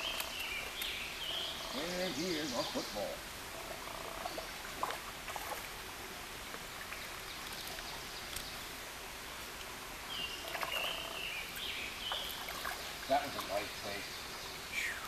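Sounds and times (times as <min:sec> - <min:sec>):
shallow stream flowing: 0:00.0 - 0:15.0.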